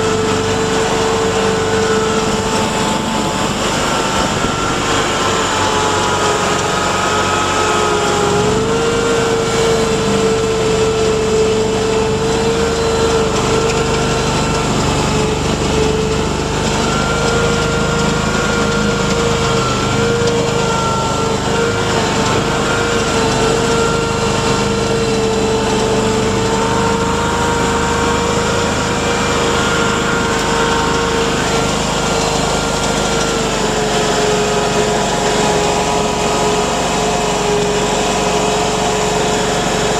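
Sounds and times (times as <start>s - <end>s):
vehicle engine drone with whine: 0.0s - 39.9s.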